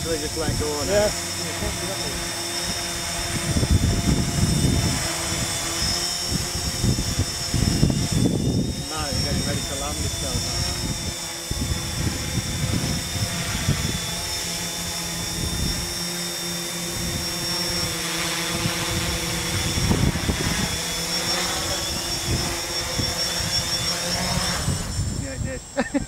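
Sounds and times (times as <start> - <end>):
drone motors and propellers whining: 0.0 - 26.0.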